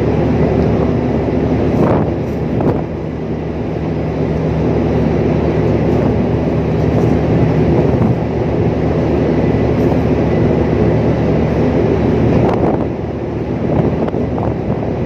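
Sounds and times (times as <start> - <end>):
ship machinery low drone: 0.0 - 15.0.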